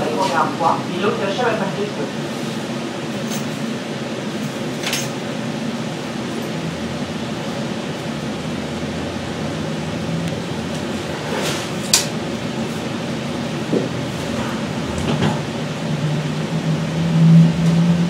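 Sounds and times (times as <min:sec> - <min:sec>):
people-mover car running hum: 0:00.0 - 0:18.0.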